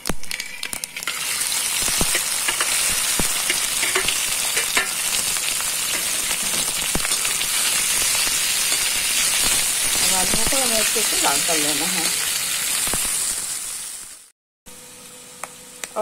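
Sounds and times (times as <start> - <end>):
oil crackles: 0.0 - 14.3
potatoes sizzling in hot oil: 0.0 - 16.0.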